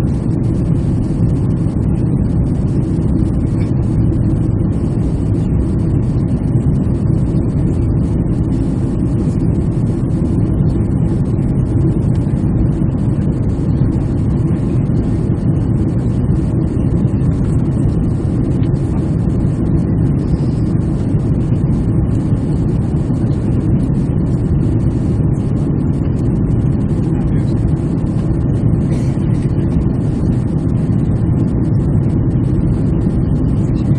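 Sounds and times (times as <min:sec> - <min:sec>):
airliner jet engines: 0:00.0 - 0:33.9.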